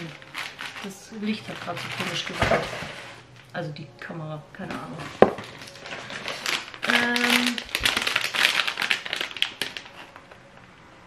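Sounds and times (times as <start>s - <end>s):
plastic wrapper crinkling: 0.0s - 3.6s, 4.8s - 10.6s.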